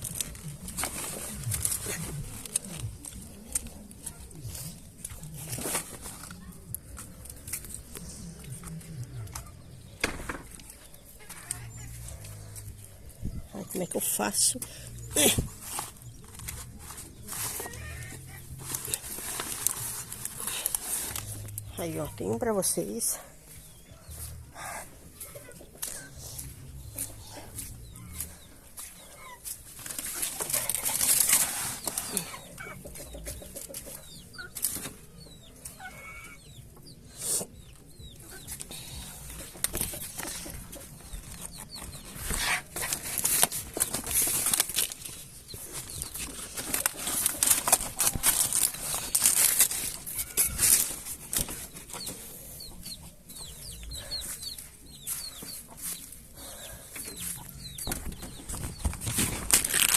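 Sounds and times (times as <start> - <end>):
rustling and scraping: 0.0 - 35.9, 37.1 - 59.9
chickens clucking: 0.0 - 59.9.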